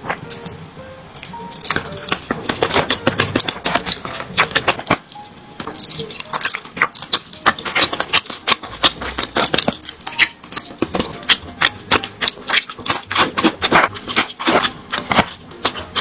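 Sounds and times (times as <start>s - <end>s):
crisp eating crackles: 0.0s - 16.0s.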